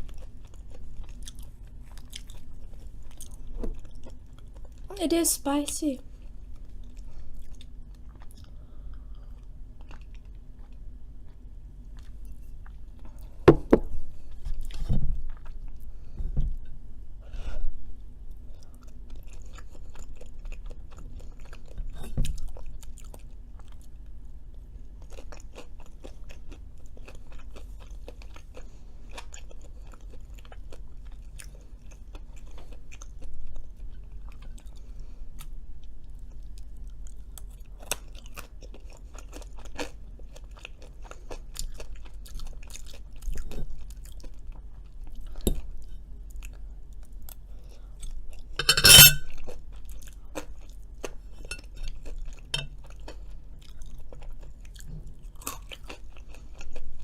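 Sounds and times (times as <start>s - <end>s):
chewing crunchy fries: 0.0s - 4.9s, 6.0s - 13.4s, 14.0s - 16.8s, 17.9s - 48.6s, 49.2s - 57.0s.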